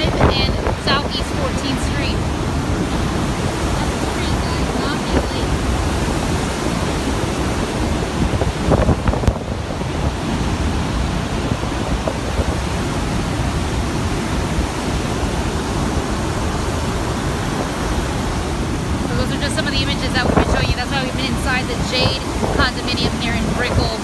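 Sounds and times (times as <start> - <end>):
hurricane wind: 0.0 - 24.0
water rushing across a street: 0.0 - 24.0
wind buffeting microphone: 0.0 - 24.0.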